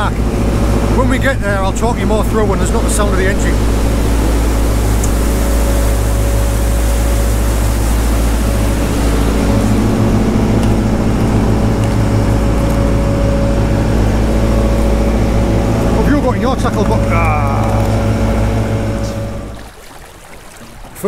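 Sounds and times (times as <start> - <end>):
boat engine drone: 0.0 - 21.0.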